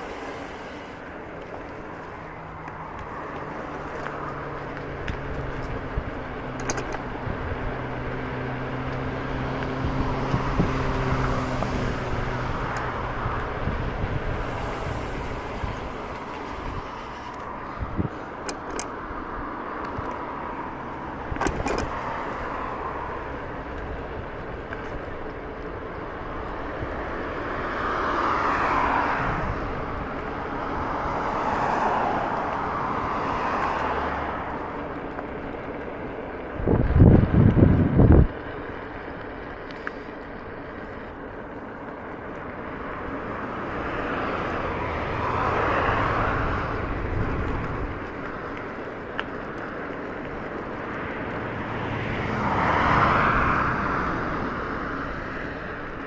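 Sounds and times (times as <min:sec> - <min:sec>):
scooter tyres on gravel: 0:00.0 - 0:56.0.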